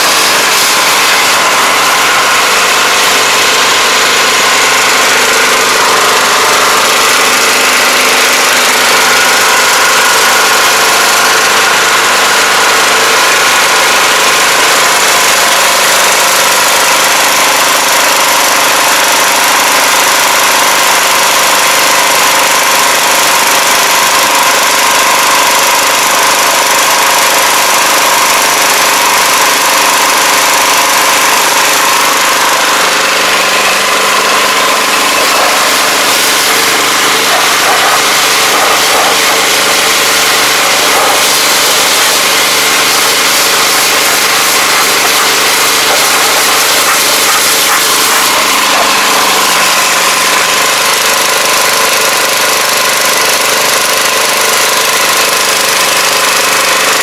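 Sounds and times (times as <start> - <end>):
high-pressure water jet hiss: 0.0 - 52.3
pressure washer engine running: 0.0 - 57.0.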